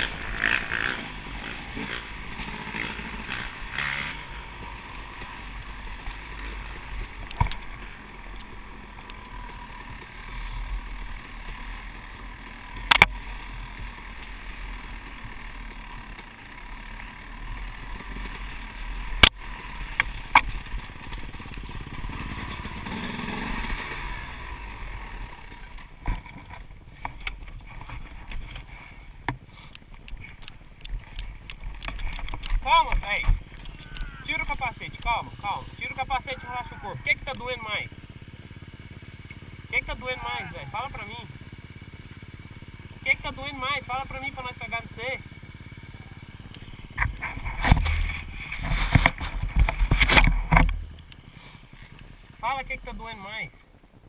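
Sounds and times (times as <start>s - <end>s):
dirt bike engine and wind rushing: 0.0s - 54.0s.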